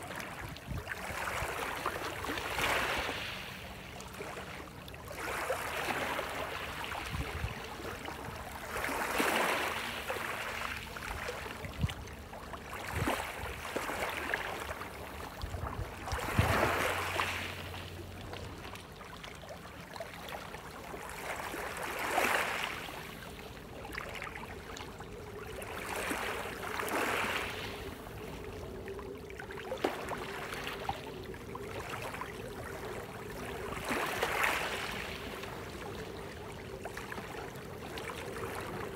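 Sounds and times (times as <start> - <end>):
sea waves washing on shore: 0.0 - 38.9.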